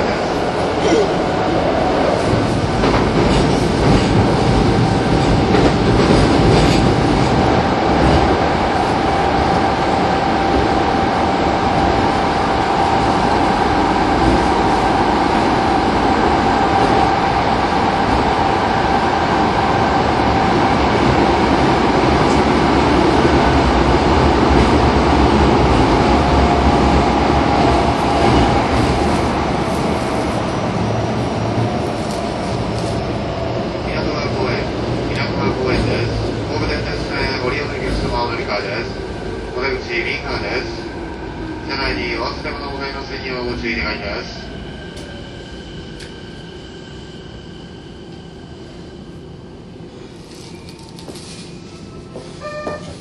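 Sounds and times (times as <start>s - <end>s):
train wheel and rail rumble: 0.0s - 53.0s.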